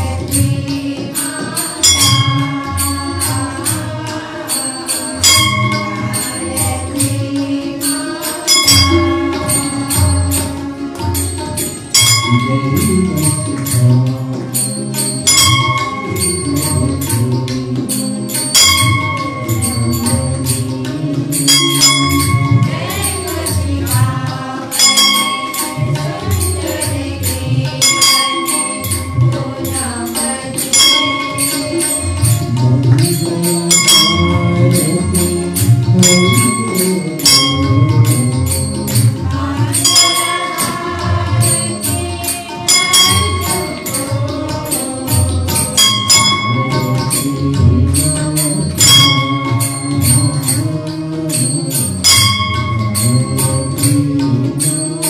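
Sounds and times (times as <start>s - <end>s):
bells and jingling percussion: 0.0s - 55.0s
low melody: 0.0s - 55.0s
struck ringing bell: 0.0s - 55.0s.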